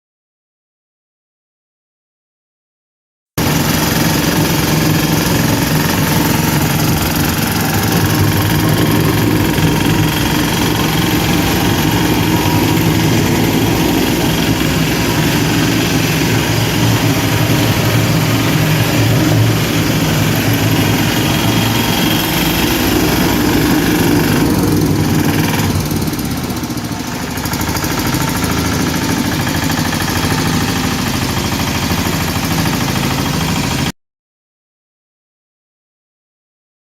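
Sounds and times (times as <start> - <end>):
road roller engine running: 3.4 - 33.9.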